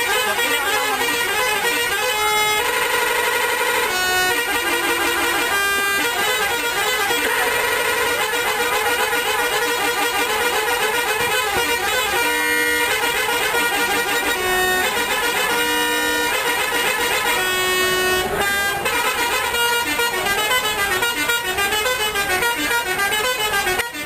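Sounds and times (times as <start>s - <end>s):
musical bus air horns: 0.0s - 24.0s.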